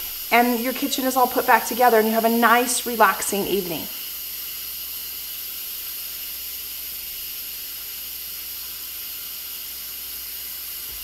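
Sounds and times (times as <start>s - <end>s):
pressure cooker steam hiss: 0.0s - 11.0s.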